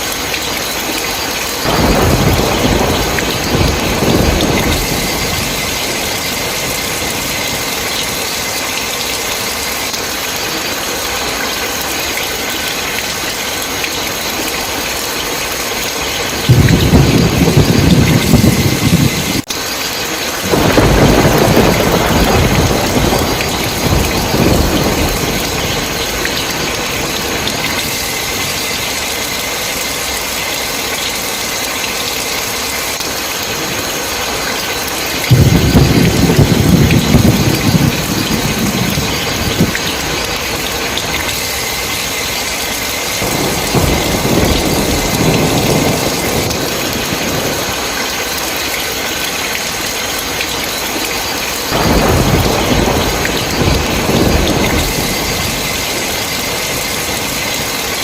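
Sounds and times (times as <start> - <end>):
heavy rain: 0.0 - 58.0
thunder rumbling: 0.2 - 30.7, 32.1 - 58.0.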